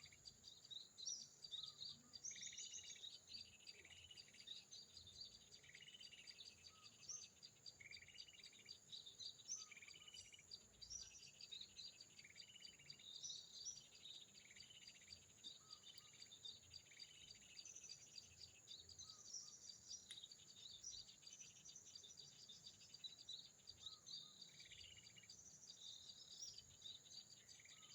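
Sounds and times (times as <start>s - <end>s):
small bird chirping: 0.0s - 27.9s.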